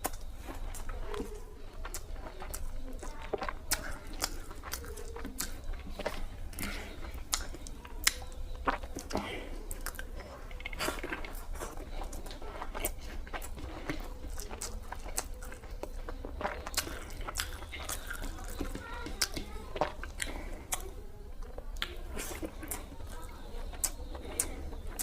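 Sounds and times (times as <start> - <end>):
chewing and mouth clicks: 0.0 - 25.0.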